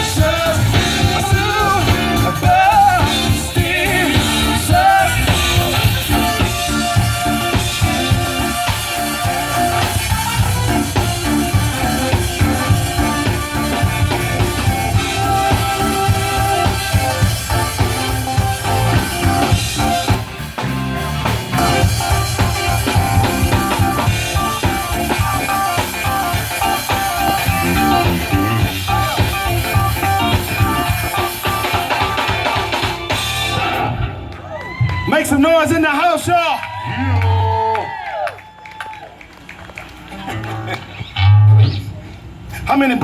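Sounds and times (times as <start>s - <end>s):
electric bass: 0.0s - 34.4s, 40.1s - 42.7s
drum kit: 0.0s - 35.1s
electric guitar: 0.0s - 35.1s, 39.6s - 42.1s.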